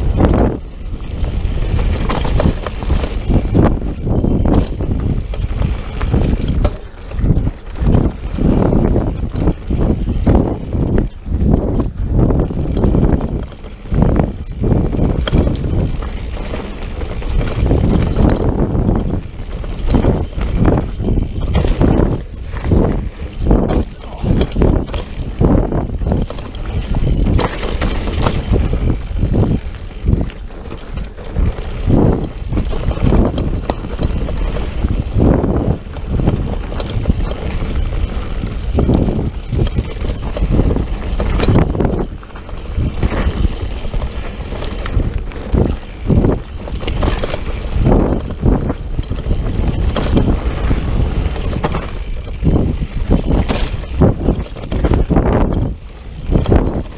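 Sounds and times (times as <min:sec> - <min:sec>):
bike knocking and rattling: 0:00.0 - 0:56.9
tyres on dirt: 0:00.0 - 0:56.9
wind on microphone: 0:00.0 - 0:56.9.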